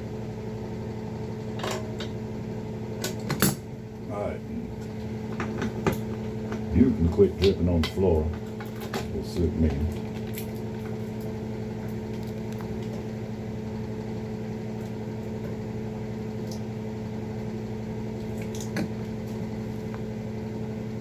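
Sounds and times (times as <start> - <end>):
electrical motor hum: 0.0 - 21.0.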